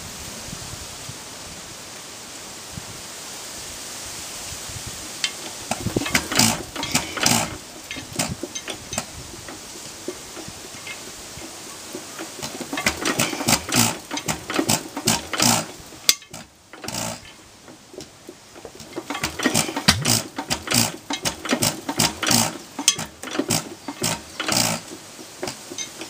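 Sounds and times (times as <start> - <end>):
stationary engine popping and knocking: 5.1 - 26.0.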